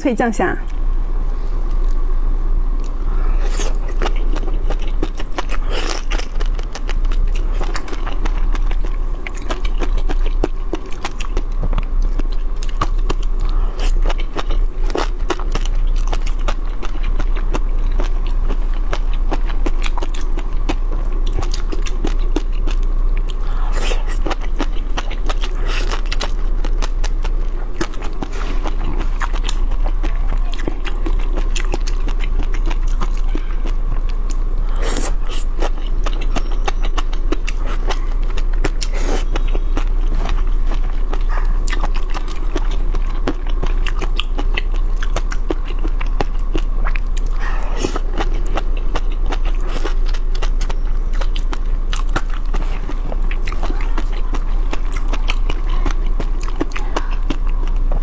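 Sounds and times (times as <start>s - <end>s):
steady low hum: 0.0s - 58.0s
crunchy chewing: 2.7s - 58.0s.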